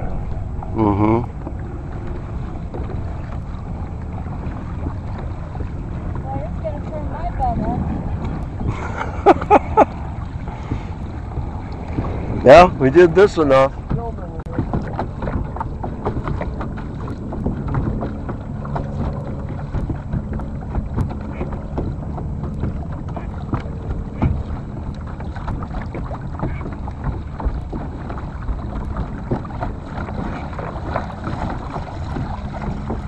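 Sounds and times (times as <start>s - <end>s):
water sloshing against hull: 0.0s - 33.0s
wind on microphone: 0.0s - 33.0s.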